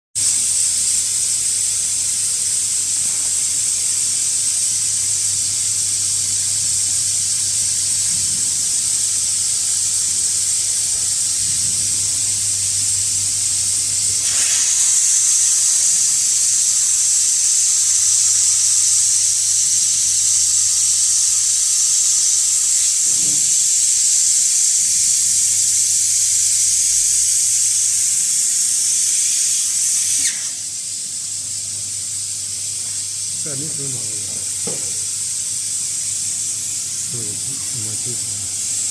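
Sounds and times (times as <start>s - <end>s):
high-pitched hiss of escaping gas: 0.2s - 38.9s.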